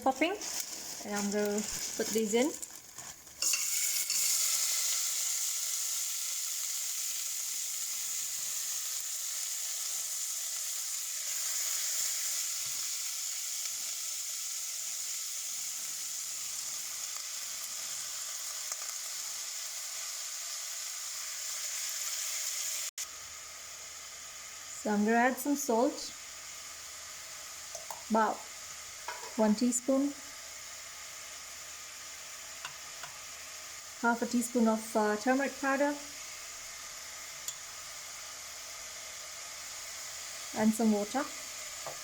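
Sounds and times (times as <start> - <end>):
beans sizzling in hot oil: 0.0 - 42.0.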